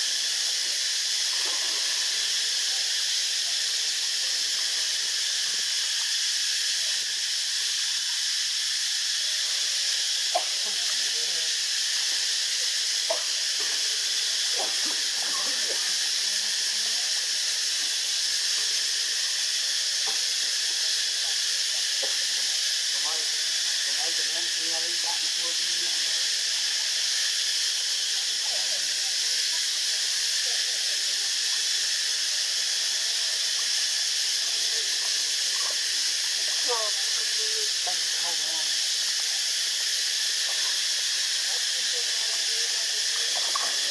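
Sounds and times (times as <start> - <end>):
high-pitched hiss: 0.0 - 43.9.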